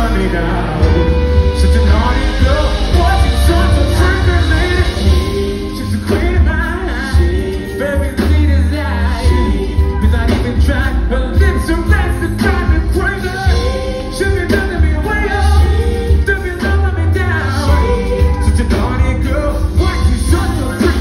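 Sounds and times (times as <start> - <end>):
drums: 0.0 - 21.0
man singing: 0.0 - 21.0
pulsing bass: 0.0 - 21.0.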